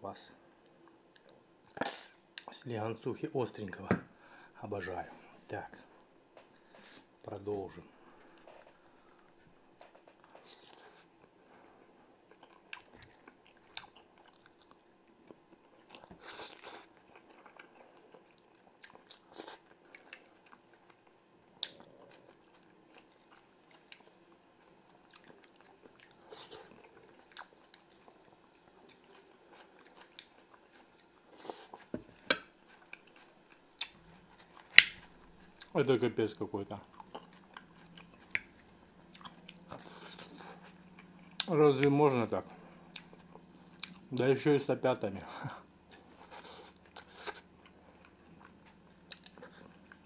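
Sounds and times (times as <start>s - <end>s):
man chewing food: 0.5s - 2.5s, 6.0s - 44.3s, 45.3s - 50.0s.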